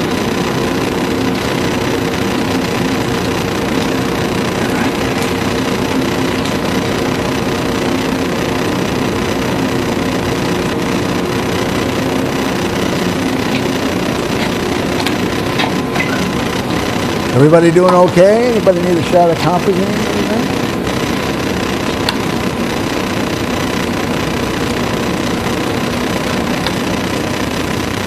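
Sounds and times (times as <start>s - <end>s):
operating room hum and hiss: 0.0s - 28.0s.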